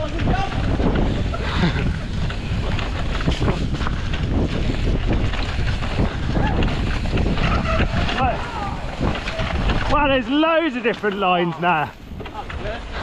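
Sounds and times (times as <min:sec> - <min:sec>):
bike knocking and rattling: 0:00.0 - 0:13.0
bike tyre noise on dirt: 0:00.0 - 0:13.0
wind buffeting microphone: 0:00.0 - 0:13.0.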